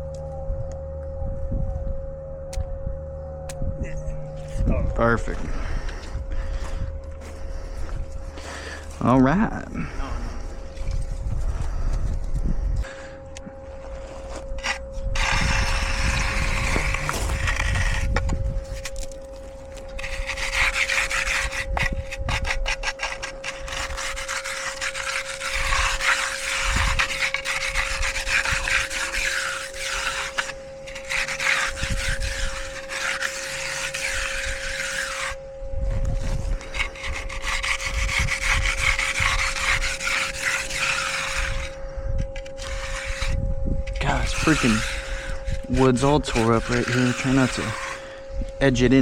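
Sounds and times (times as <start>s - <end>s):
faint steady hum: 0.0s - 49.0s
concrete edger scraping: 4.4s - 49.0s.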